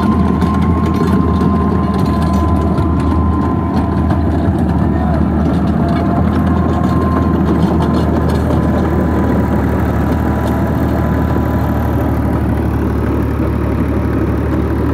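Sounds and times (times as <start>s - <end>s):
thin steady whine: 0.0s - 14.8s
diesel tractor engine running: 0.0s - 14.9s.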